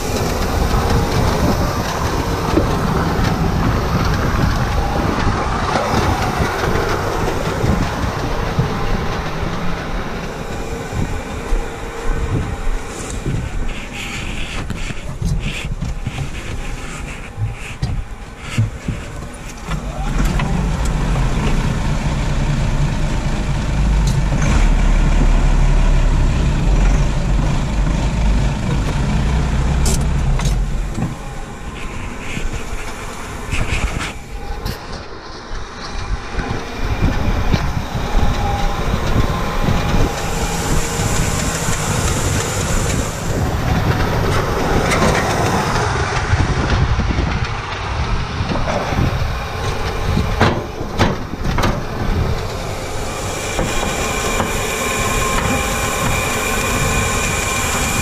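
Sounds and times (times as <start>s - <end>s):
tractor diesel engine rumbling: 0.0s - 58.0s.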